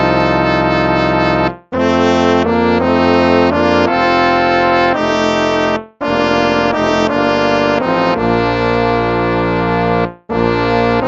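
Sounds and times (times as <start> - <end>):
brass hymn chords: 0.0 - 11.0.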